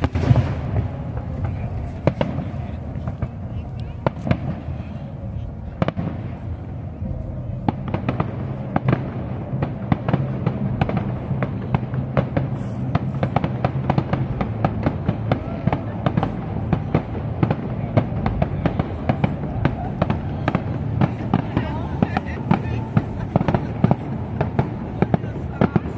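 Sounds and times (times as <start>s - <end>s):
fireworks crackling and popping: 0.0s - 25.9s.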